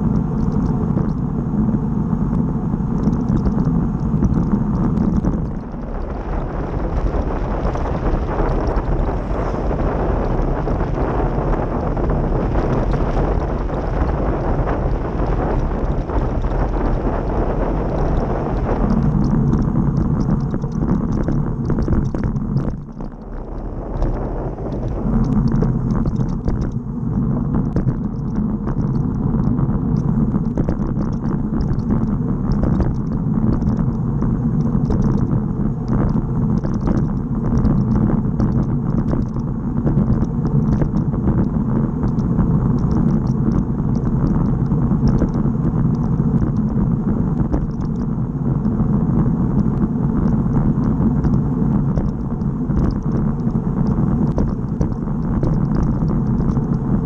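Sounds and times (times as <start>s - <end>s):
tyre noise on asphalt: 0.0s - 57.0s
wind rumble on microphone: 0.0s - 57.0s
faint high ticks: 0.1s - 1.3s, 3.0s - 6.2s, 12.6s - 26.8s, 27.6s - 34.0s, 34.6s - 56.9s.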